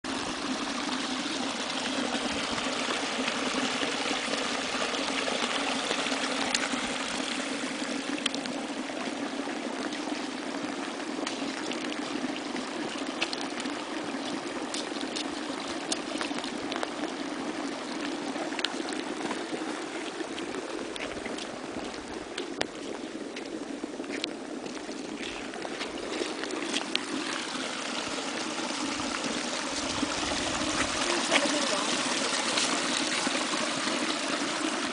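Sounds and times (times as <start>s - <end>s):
water drips and splashes: 0.1s - 34.9s.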